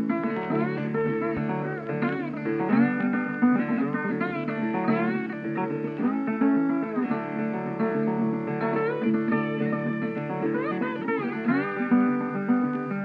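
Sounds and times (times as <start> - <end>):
plucked acoustic guitar melody: 0.0 - 13.0.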